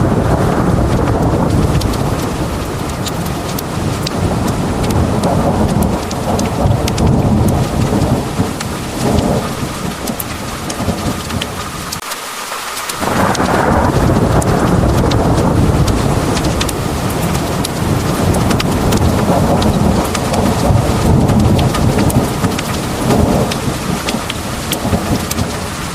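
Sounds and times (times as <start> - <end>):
rolling thunder: 0.0 - 12.0, 13.0 - 25.9
heavy rain pouring: 0.0 - 25.9
drops ticking on hard surface: 1.7 - 11.6, 14.4 - 25.6.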